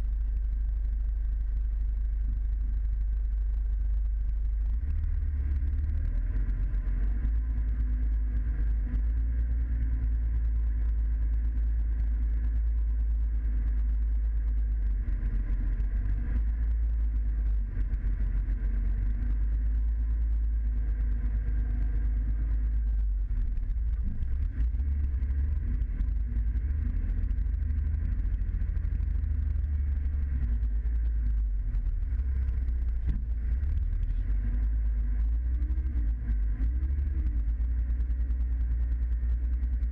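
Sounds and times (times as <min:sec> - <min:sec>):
truck diesel engine droning: 0:04.6 - 0:39.9.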